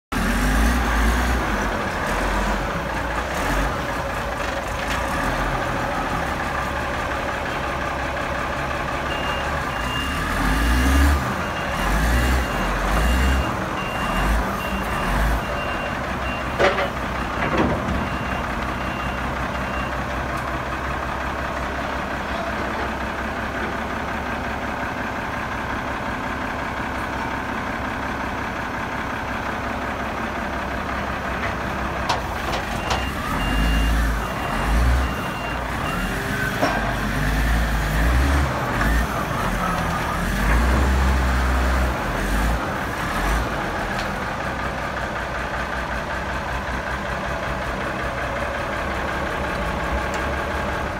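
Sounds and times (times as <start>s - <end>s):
diesel engine idling: 0.1s - 50.9s.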